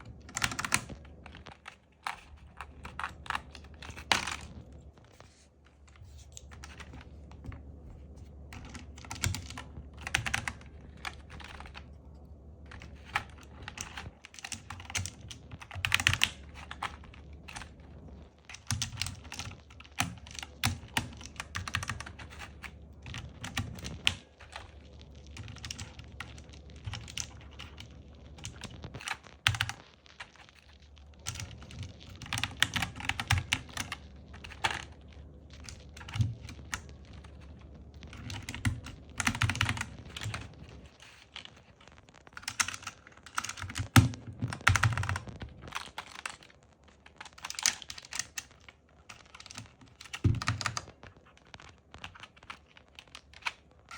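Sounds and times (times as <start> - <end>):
mechanical keyboard typing: 0.0 - 53.9.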